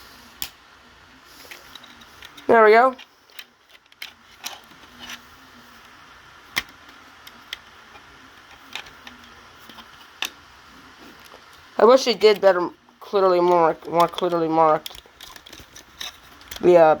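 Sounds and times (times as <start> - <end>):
plastic handling sounds: 1.4 - 17.0.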